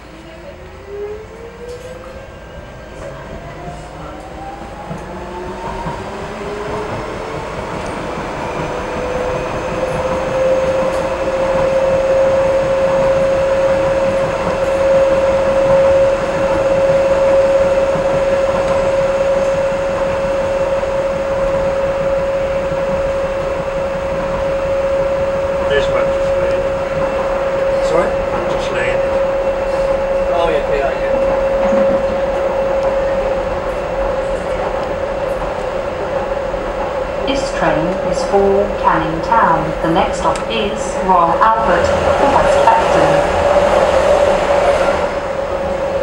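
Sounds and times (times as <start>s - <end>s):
wheel and track rumble: 0.0s - 46.0s
train motor whine: 0.6s - 46.0s.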